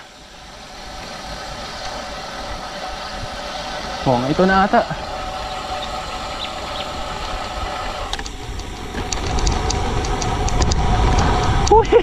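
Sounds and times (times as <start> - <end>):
engine humming: 0.0 - 12.0
low rumble: 0.0 - 12.0.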